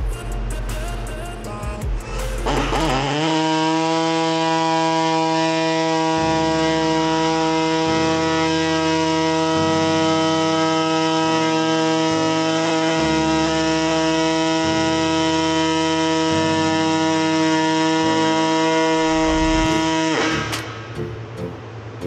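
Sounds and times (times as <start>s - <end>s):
pneumatic die grinder whining: 1.9s - 21.1s.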